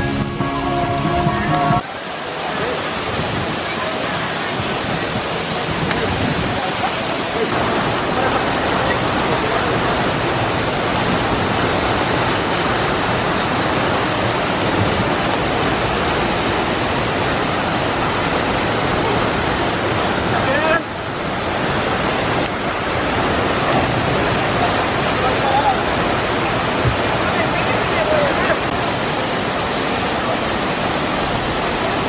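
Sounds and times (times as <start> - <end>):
waterfall rushing into pool: 0.0 - 32.0.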